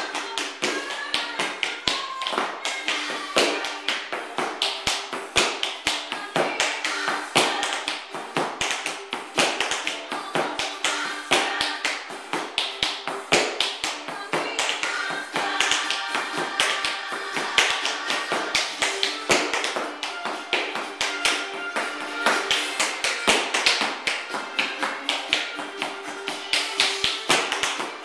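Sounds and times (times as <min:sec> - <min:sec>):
music playing: 0:00.0 - 0:28.0
tap shoes on hardwood floor: 0:00.0 - 0:28.0.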